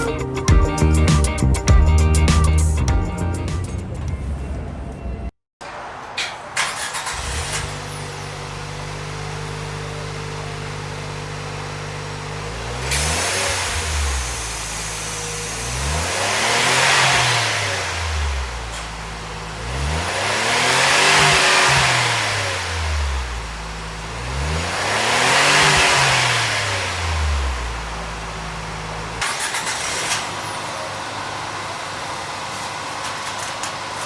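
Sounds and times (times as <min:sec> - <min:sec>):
car engine idling and revving: 0:06.6 - 0:34.0.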